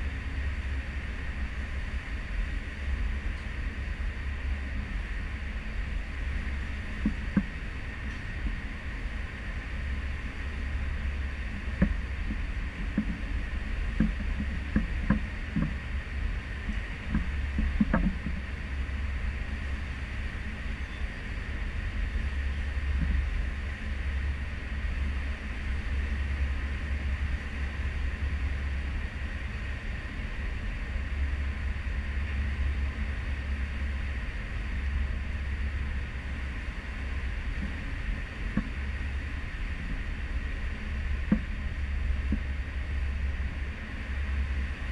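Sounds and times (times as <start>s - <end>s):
ship low rumble and rushing: 0.0s - 44.9s.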